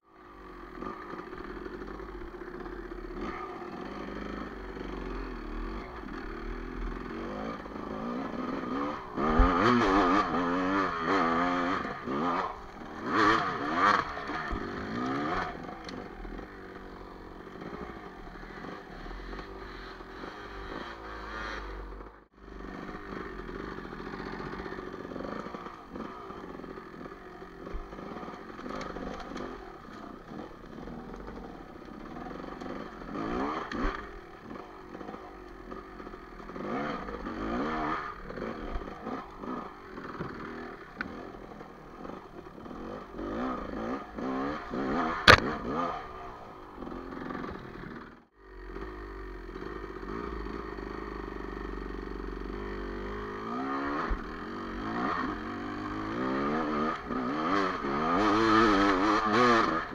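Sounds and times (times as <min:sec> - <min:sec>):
dirt bike engine revving: 0:00.2 - 0:59.9.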